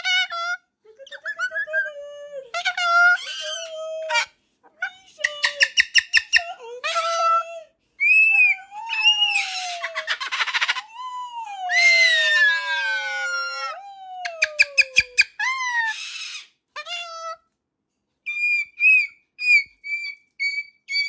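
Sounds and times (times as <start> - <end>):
parrot squawking and chattering: 2.5 - 11.0, 11.7 - 17.4, 18.3 - 21.0.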